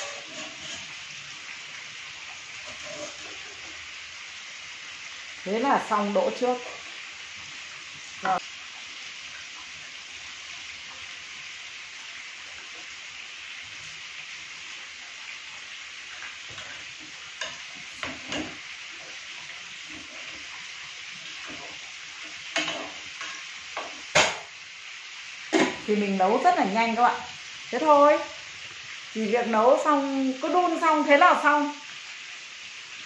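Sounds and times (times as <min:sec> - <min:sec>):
pot of vegetables hissing: 0:00.0 - 0:33.0.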